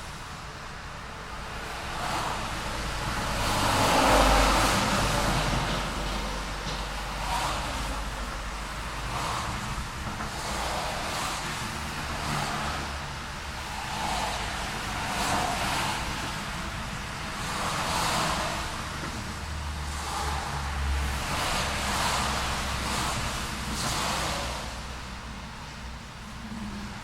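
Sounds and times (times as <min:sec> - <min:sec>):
cars passing: 0:00.0 - 0:27.0
low rumble of traffic: 0:00.0 - 0:27.0.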